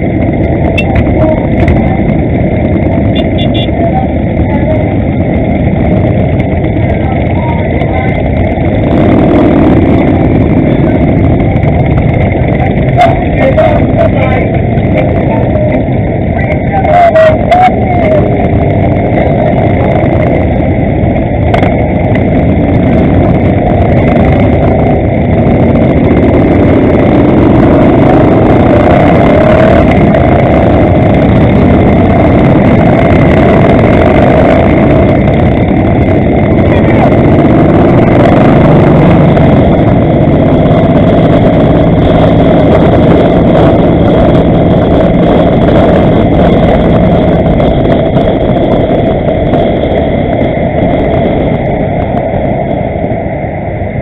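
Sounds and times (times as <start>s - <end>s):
motorcycle engines rumbling: 0.0s - 54.0s.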